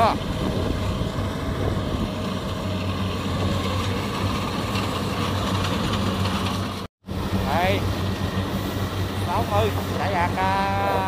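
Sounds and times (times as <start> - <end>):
combine harvester engine running: 0.0 - 11.0
machinery noise: 0.0 - 11.0.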